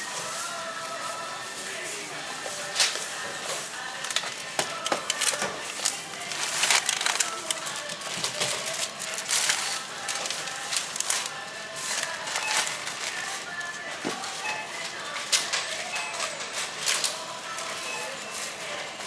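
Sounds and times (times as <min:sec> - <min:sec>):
plastic bags rustling and crinkling: 0:00.0 - 0:19.0.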